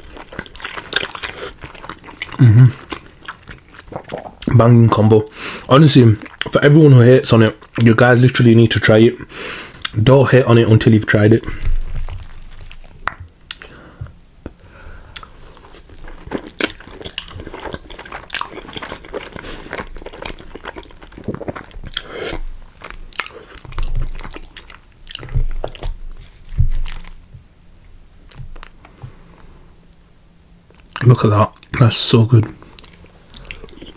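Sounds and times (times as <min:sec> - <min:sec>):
chewing and crunching chips: 0:00.0 - 0:29.0, 0:30.7 - 0:33.9.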